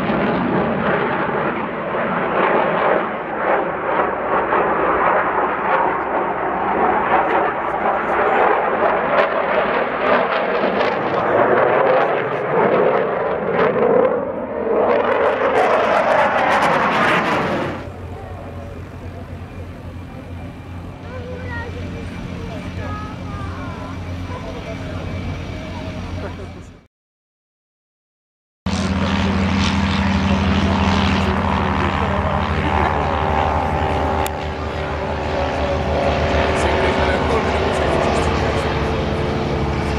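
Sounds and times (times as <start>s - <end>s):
jet aircraft flying past: 0.0s - 26.9s, 28.7s - 39.9s.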